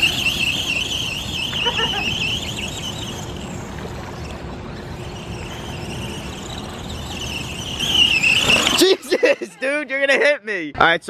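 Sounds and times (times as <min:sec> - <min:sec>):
toy truck motor whining: 0:00.0 - 0:09.0.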